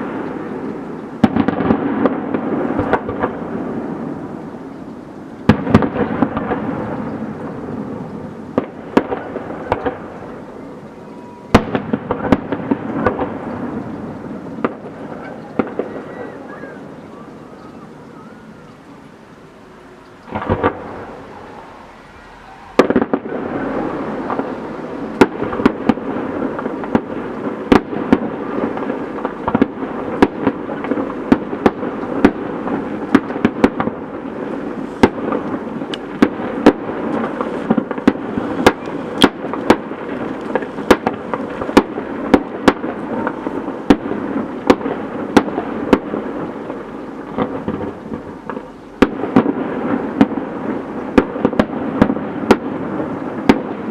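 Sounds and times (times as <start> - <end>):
fireworks bangs: 0.0 - 53.9
fireworks rumbling and crackling: 0.0 - 53.9.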